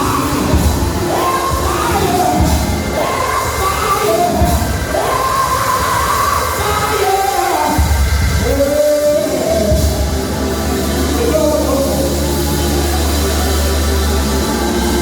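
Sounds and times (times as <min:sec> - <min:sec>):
church band music: 0:00.0 - 0:15.0.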